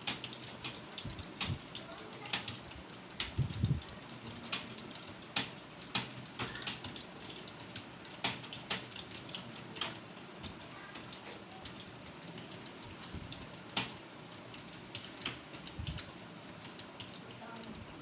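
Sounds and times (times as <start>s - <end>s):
keyboard typing clicks: 0.0s - 17.8s.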